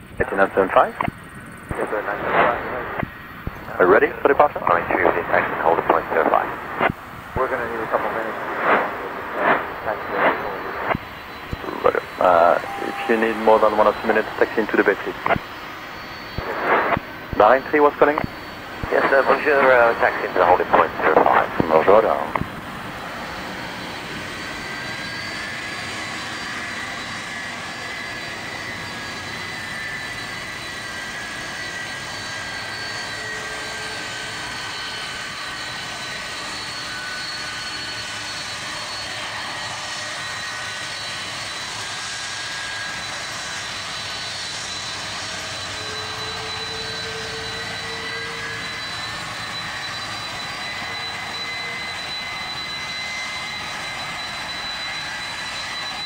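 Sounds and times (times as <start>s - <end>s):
jet engines whining at taxi: 0.0s - 56.0s.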